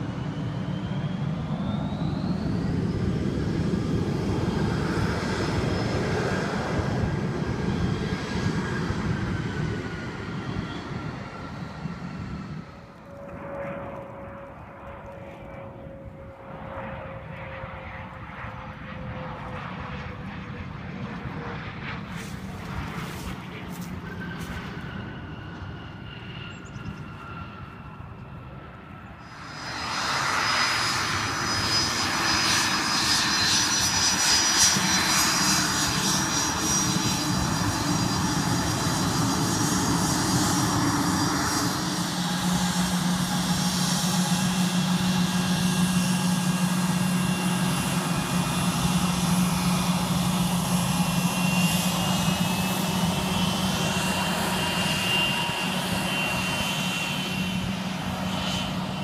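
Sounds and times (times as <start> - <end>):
jet engines roaring with whine: 0.0 - 59.0.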